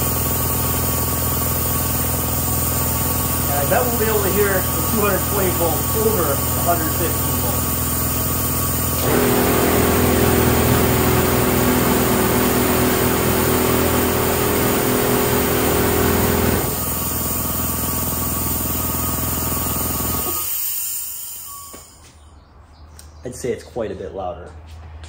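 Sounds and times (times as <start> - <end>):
quieter air compressor running: 0.0 - 22.1
air compressor humming: 0.0 - 22.2.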